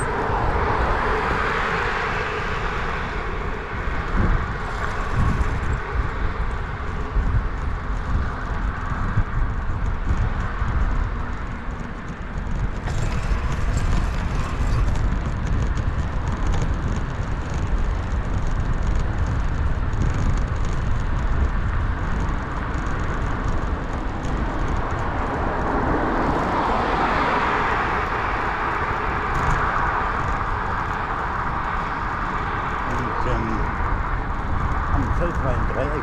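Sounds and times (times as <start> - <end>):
bicycle tyre noise: 0.0 - 36.0
wind rumble on microphone: 0.0 - 36.0.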